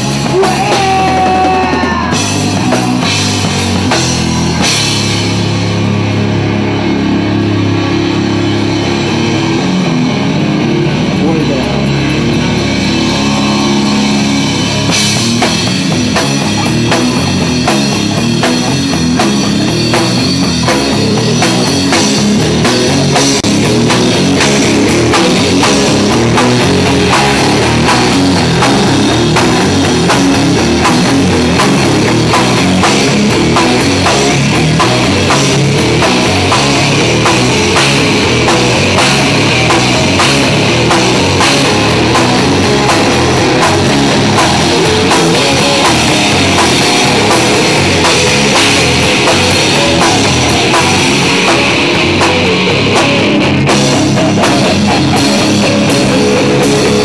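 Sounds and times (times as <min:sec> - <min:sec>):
bass guitar: 0:00.0 - 0:57.0
drum kit beat: 0:00.0 - 0:57.0
electric guitars: 0:00.0 - 0:57.0.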